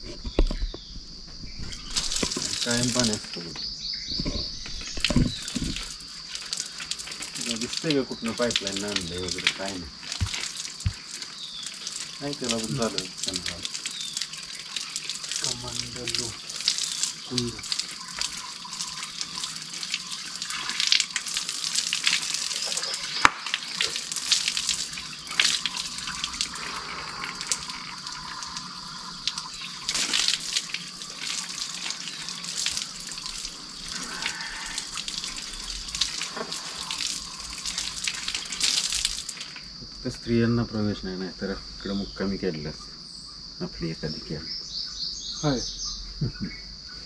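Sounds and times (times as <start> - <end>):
high insect drone: 0.0 - 47.0
tap water splashing on stone: 1.9 - 39.7.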